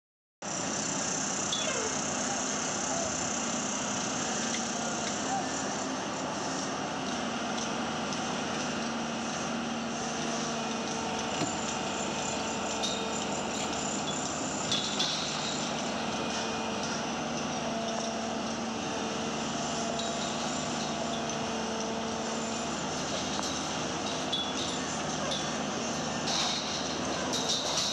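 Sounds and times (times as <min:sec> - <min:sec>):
excavator diesel engine running: 0:00.5 - 0:27.9.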